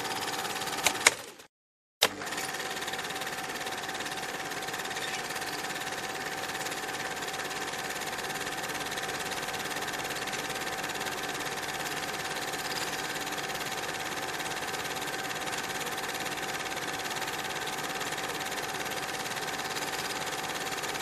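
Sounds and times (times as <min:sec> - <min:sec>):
film projector whirring: 0:00.0 - 0:21.0.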